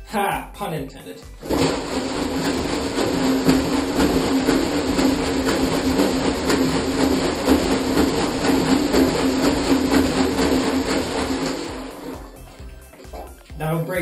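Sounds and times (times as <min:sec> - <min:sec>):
water sloshing in a plastic tank: 0:01.4 - 0:13.5.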